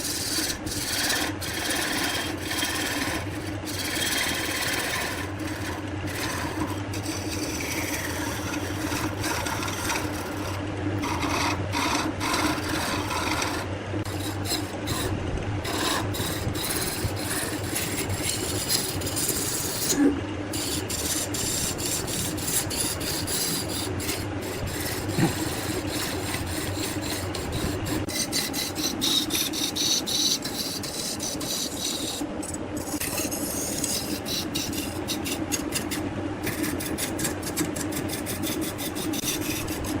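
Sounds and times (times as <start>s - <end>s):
lathe motor hum: 0.0s - 40.0s
tool rasping on spinning wood: 0.0s - 40.0s.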